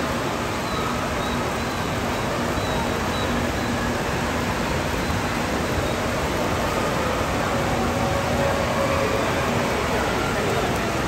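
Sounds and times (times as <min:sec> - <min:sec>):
indoor hall noise: 0:00.0 - 0:11.0
water rushing down slides: 0:00.0 - 0:11.0.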